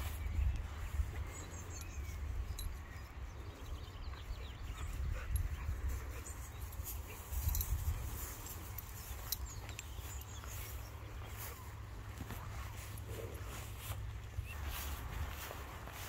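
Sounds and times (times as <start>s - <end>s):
wind rumble on microphone: 0.0s - 11.4s, 12.7s - 16.0s.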